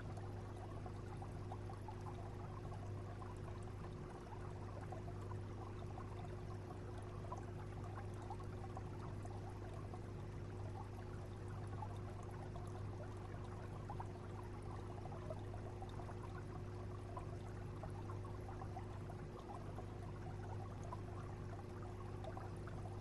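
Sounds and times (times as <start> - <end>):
pump humming: 0.0 - 23.0
water trickling and splashing: 0.0 - 23.0.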